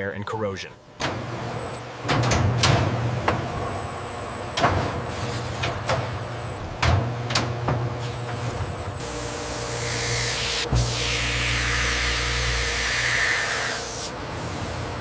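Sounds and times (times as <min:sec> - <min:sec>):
machinery humming and whining: 0:00.6 - 0:15.0.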